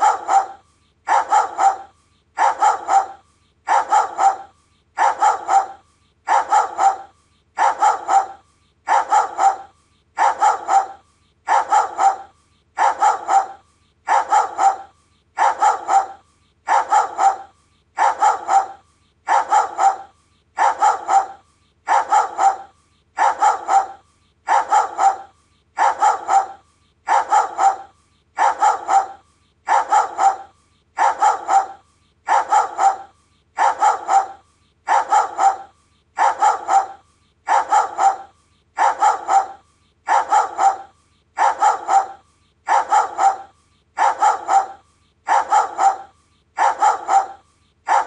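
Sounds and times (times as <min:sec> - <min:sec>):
dog barking deeply: 0:00.0 - 0:48.0.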